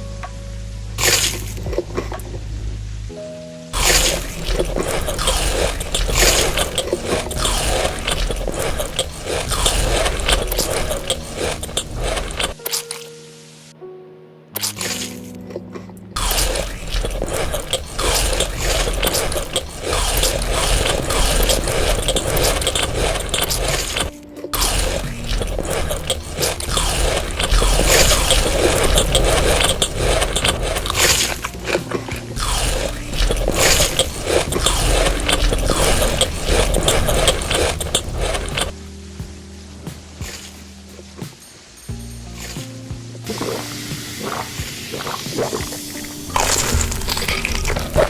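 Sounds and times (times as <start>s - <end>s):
crunchy biting and chewing: 1.0s - 1.9s, 3.8s - 13.0s, 14.6s - 15.6s, 16.2s - 38.8s, 40.2s - 41.1s, 42.3s - 42.7s, 43.3s - 48.0s.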